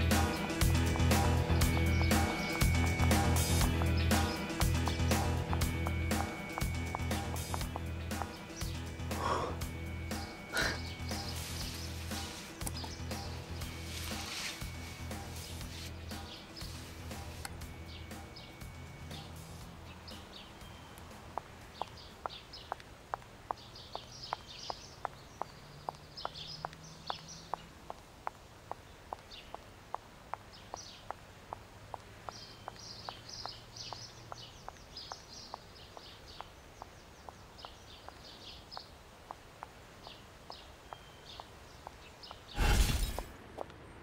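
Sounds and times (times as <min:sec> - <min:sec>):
footsteps on pavement: 0:00.0 - 0:43.8
small birds chirping: 0:00.0 - 0:44.0.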